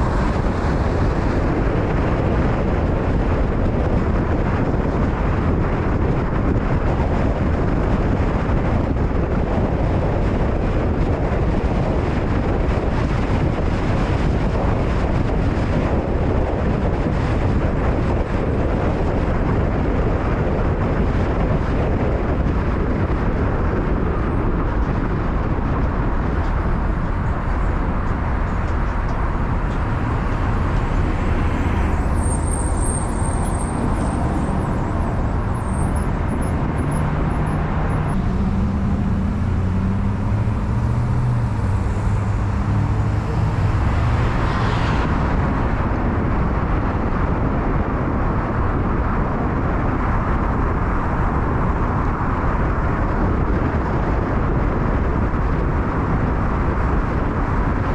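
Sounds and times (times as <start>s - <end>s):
wind noise: 0.0s - 57.9s.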